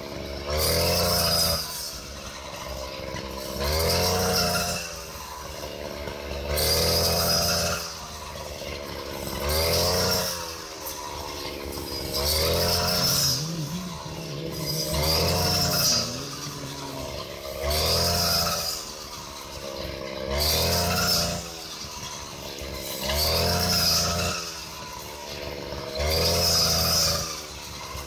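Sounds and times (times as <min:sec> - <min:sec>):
blade cutting wheat stalks: 0:00.0 - 0:28.0
brush cutter engine revving: 0:00.0 - 0:28.0.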